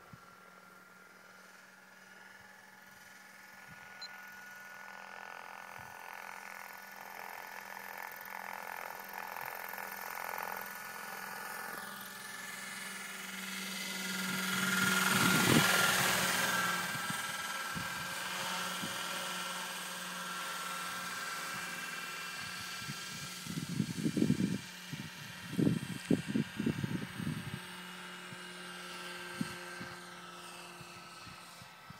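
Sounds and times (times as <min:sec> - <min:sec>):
model helicopter rotor whine: 0:00.0 - 0:31.9.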